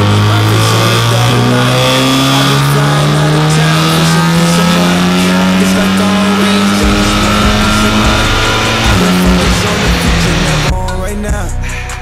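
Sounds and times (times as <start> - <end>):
car engine pulling on a dyno: 0.0 - 10.7.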